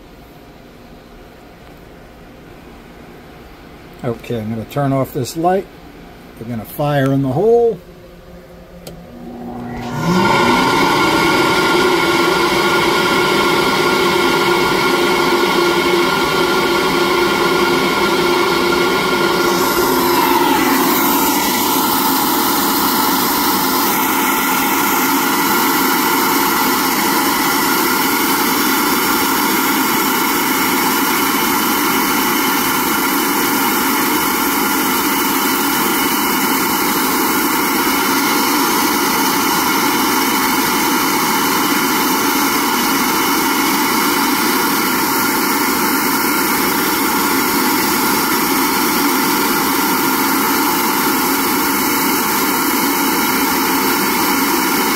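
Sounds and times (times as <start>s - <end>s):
flow bench motor and air rushing: 6.8s - 54.9s.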